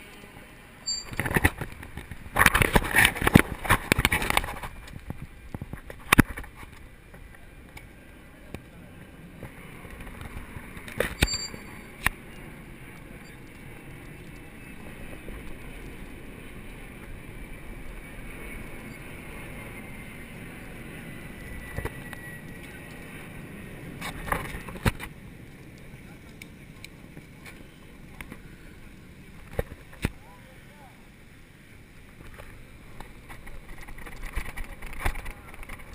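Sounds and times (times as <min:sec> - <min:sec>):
bicycle tyres on steel grid: 0:00.0 - 0:35.9.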